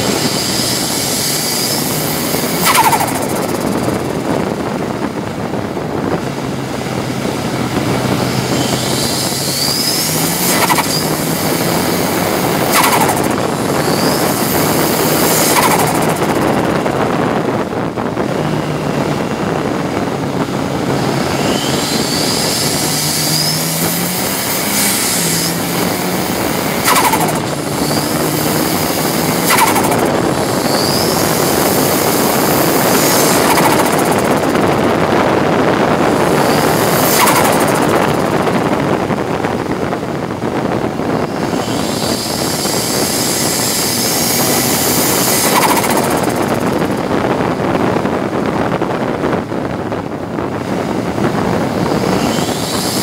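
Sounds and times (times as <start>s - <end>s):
turbo engine revving hard: 0.0s - 53.0s.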